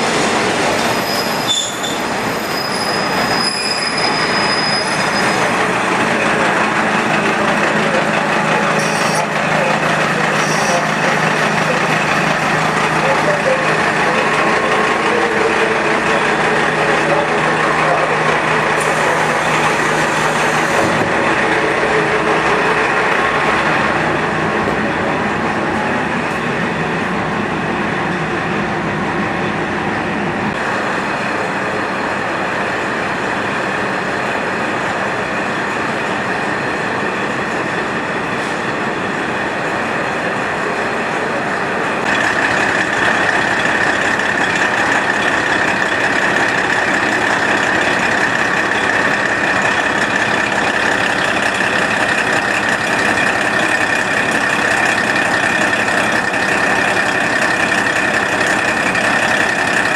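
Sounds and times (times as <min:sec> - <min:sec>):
diesel railcar drone: 0:00.0 - 0:59.9.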